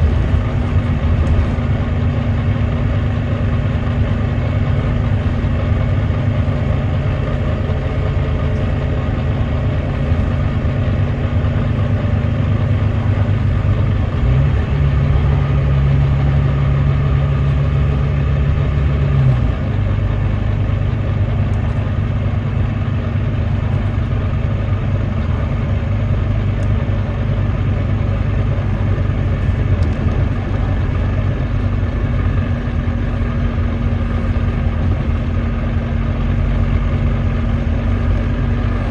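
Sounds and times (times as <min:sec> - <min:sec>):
misfiring diesel bus engine: 0:00.0 - 0:38.9.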